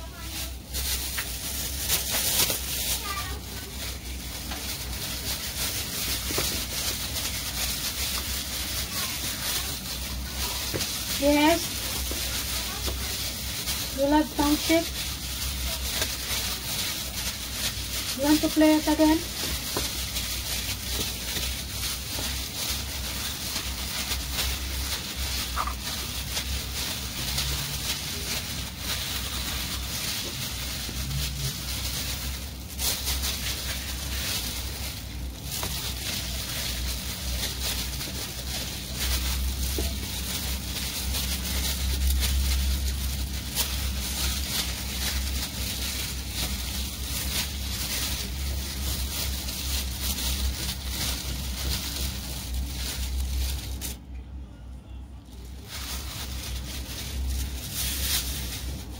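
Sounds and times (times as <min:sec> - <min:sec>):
plastic bag rustling and squishing: 0:00.0 - 0:54.2, 0:55.1 - 0:58.9
steady low hum: 0:00.0 - 0:58.9.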